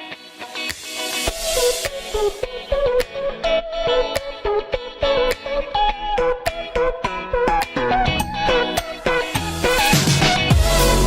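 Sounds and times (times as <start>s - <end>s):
upbeat funk music with guitar: 0.0s - 11.0s.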